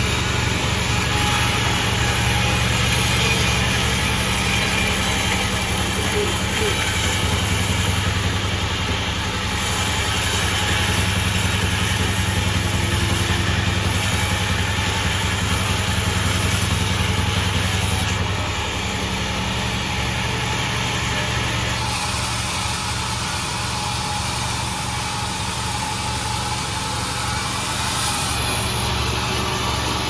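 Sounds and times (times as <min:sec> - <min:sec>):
sawmill engine running: 0:00.0 - 0:30.0.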